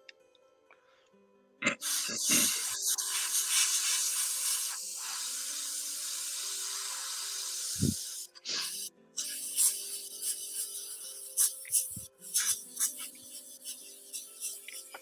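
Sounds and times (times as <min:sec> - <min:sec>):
quiet background music: 0:00.0 - 0:15.0
steady hiss: 0:01.8 - 0:15.0.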